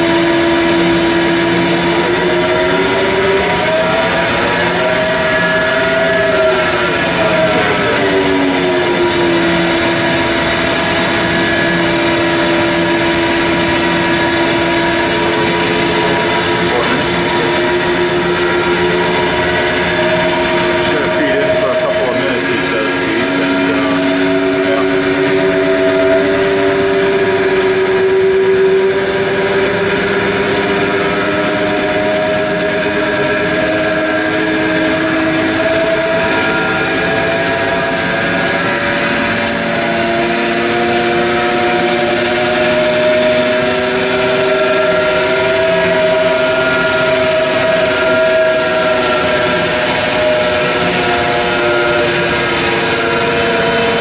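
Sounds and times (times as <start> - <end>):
grinder machine hum: 0.0 - 54.0.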